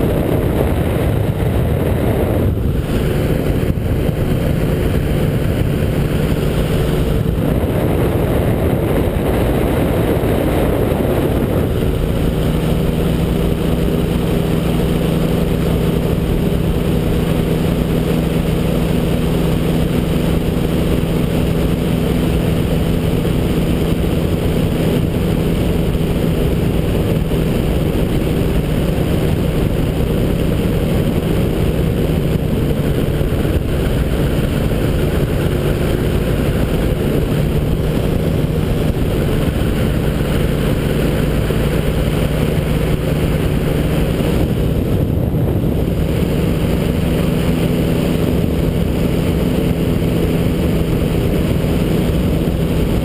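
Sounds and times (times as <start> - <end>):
engine and propeller hum: 0.0 - 53.0
wind rush: 0.0 - 53.0.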